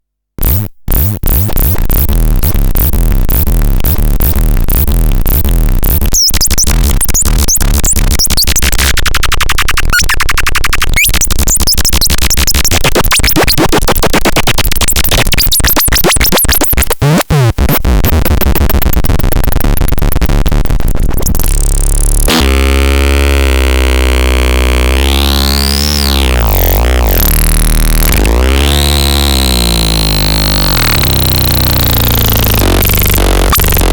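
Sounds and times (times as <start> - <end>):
deep synth bass: 0.4 - 33.9
fast pulsing synthesizer music: 2.5 - 22.4, 24.3 - 33.9.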